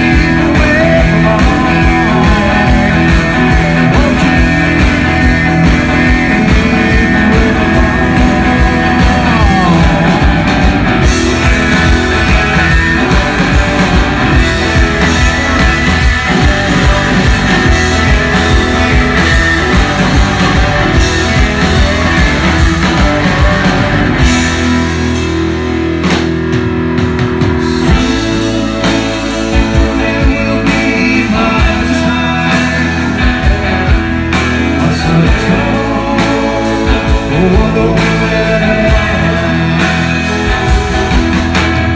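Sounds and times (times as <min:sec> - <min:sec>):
rock band playing loud: 0:00.0 - 0:41.9.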